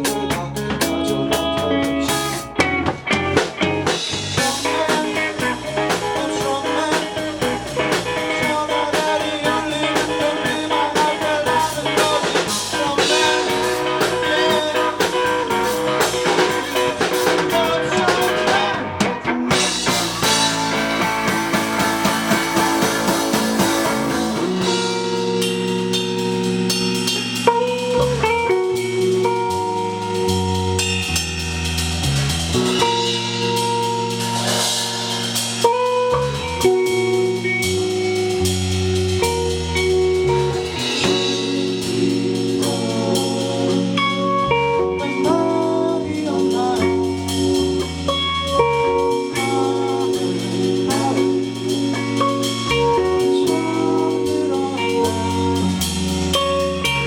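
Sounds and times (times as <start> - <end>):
band playing: 0.0 - 57.0
drum kit beat: 0.0 - 57.0
guitar: 0.0 - 57.0.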